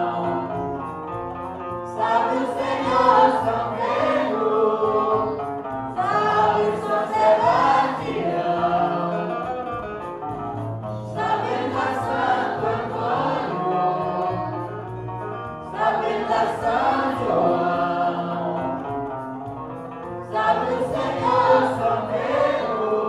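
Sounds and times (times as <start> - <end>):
group singing a hymn: 0.0 - 1.1, 1.7 - 9.8, 10.9 - 19.4, 20.1 - 23.0.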